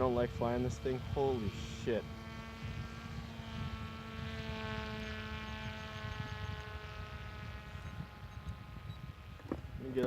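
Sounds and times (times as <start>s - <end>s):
electric motor and propeller whining: 0.0s - 10.0s
wind rumble on microphone: 0.0s - 10.0s.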